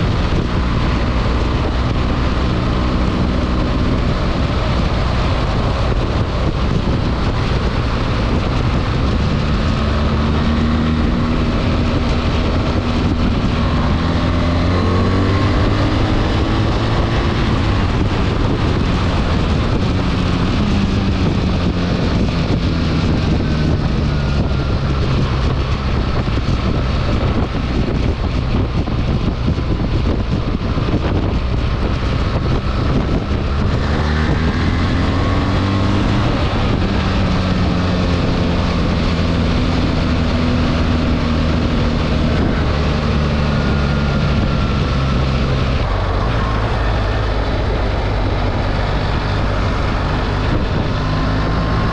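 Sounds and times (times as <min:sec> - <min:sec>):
motorcycle engine accelerating: 0:00.0 - 0:51.9
wind noise on microphone: 0:00.0 - 0:51.9.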